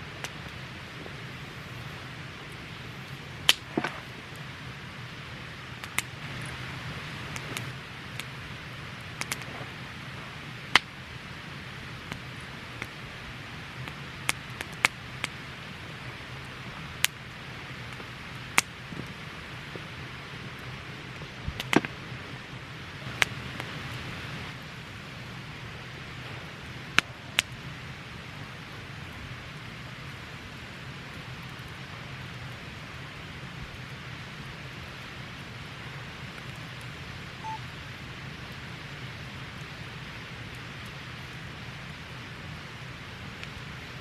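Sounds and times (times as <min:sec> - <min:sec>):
campfire hissing: 0:00.0 - 0:44.0
fire pops and crackles: 0:00.0 - 0:44.0.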